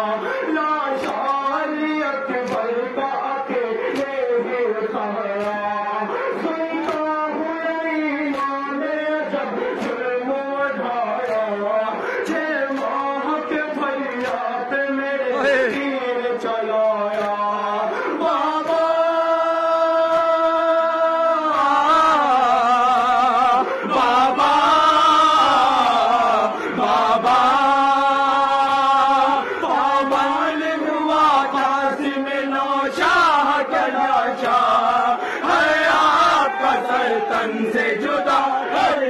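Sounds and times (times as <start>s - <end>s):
man chanting a lament: 0.0s - 39.0s.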